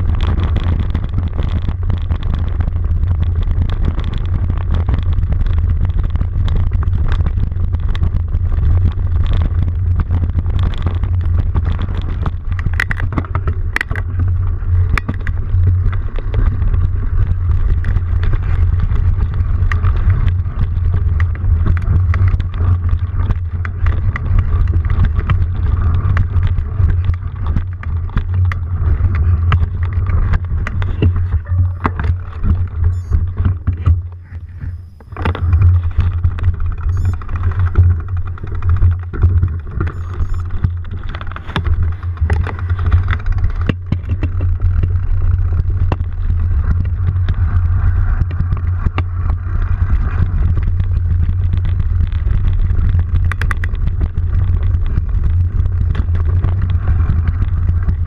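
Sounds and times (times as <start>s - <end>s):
vehicle riding rumble: 0.0s - 58.0s.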